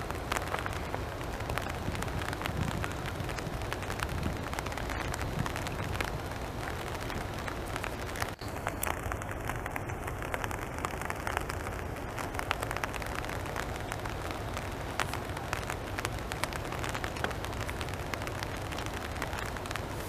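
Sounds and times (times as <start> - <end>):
light rain on water: 0.0 - 20.0.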